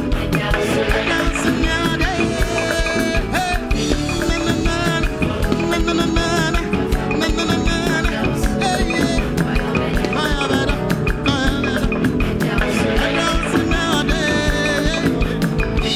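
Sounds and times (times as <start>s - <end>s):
live band playing dance music: 0.0s - 15.9s
steady drum beat: 0.0s - 15.9s.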